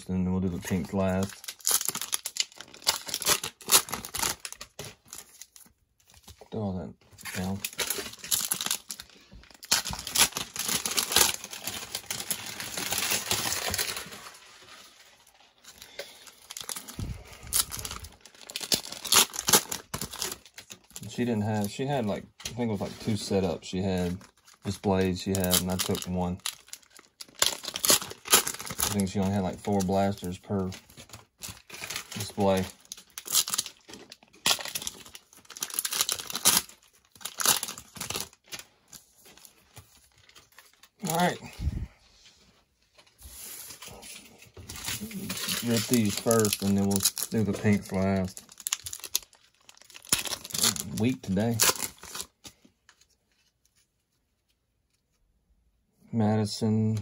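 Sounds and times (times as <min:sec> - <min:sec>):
cellophane packs crinkling: 0:00.0 - 0:41.7, 0:42.8 - 0:54.9.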